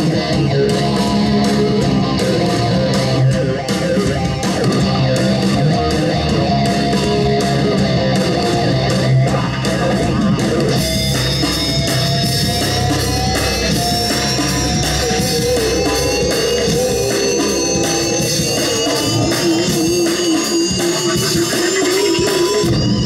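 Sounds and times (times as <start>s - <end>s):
loud rock music over speakers: 0.0s - 23.0s.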